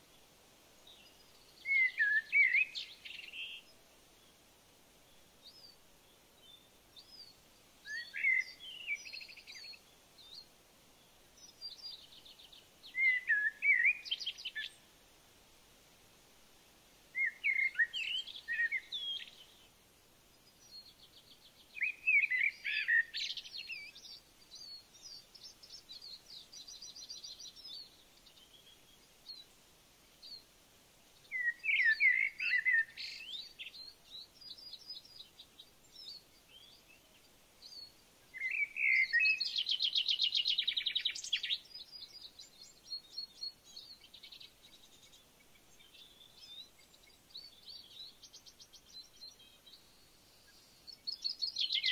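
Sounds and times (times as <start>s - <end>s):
soft bird chirps: 0.0s - 15.0s, 17.1s - 51.9s
songbird singing trills: 0.8s - 4.3s, 5.1s - 14.9s, 17.1s - 19.7s, 20.3s - 29.6s, 31.1s - 51.9s.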